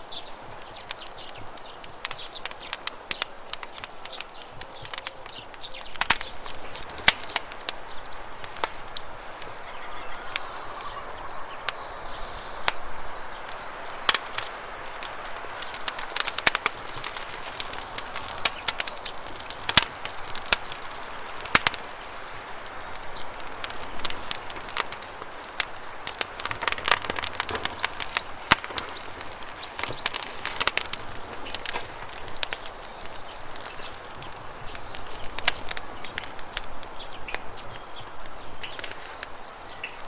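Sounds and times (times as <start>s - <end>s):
campfire crackling: 0.0s - 40.0s
running water hiss: 5.7s - 40.0s.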